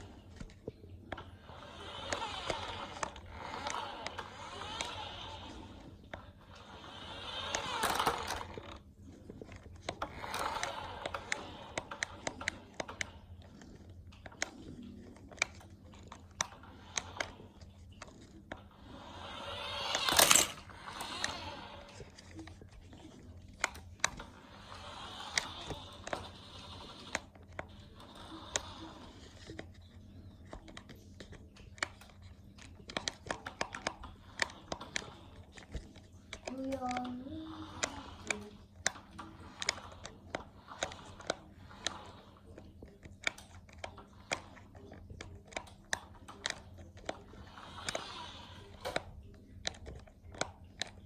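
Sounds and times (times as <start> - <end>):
crinkly rustling: 0.0 - 51.0.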